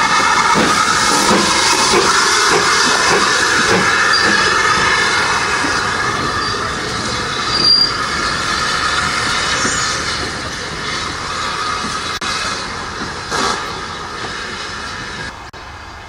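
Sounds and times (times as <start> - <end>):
high squeal: 0.0 - 16.0
steam locomotive rushing hiss: 0.0 - 16.0.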